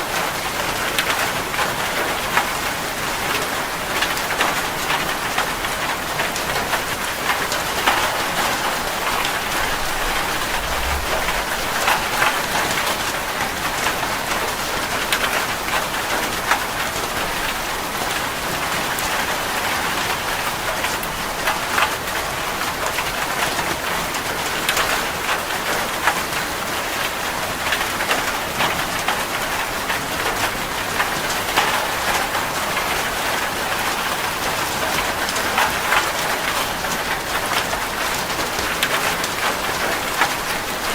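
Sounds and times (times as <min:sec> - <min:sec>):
rain falling on a surface: 0:00.0 - 0:40.9.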